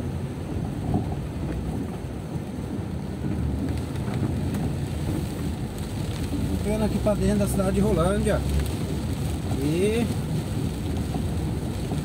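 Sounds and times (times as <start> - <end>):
car engine and tyres on wet road: 0.0 - 12.0
rain on windscreen: 0.0 - 12.0.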